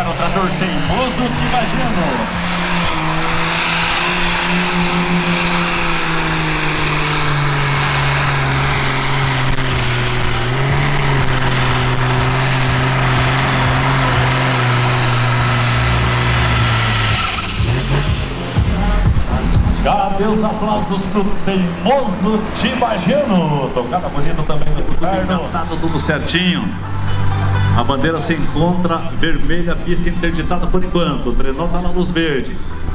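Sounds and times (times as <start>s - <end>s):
tractor diesel engine at full power: 0.0s - 32.9s.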